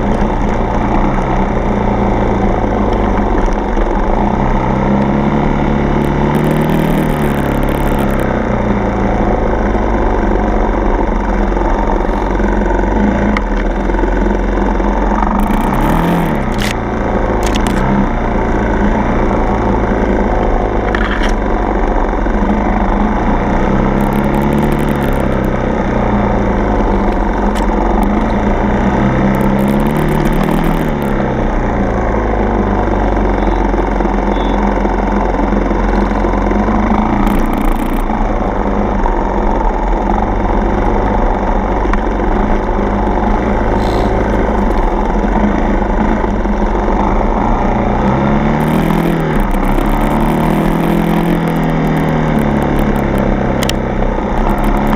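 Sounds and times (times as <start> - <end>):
dirt bike engine revving: 0.7 - 14.2, 15.1 - 32.0, 35.8 - 38.8, 42.9 - 54.9.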